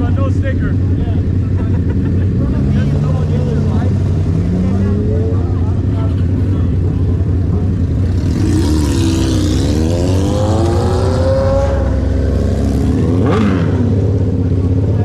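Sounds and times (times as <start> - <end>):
motorcycle engine accelerating: 0.8 - 15.0.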